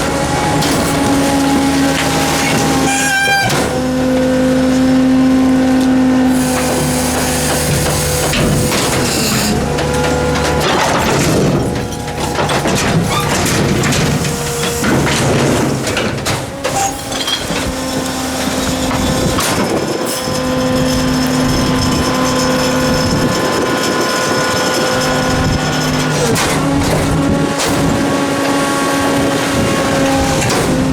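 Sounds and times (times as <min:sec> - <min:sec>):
metal and trash clattering: 0:00.0 - 0:05.0, 0:05.8 - 0:30.9
diesel engine running: 0:00.0 - 0:30.9
hydraulic pump whine: 0:00.0 - 0:30.9.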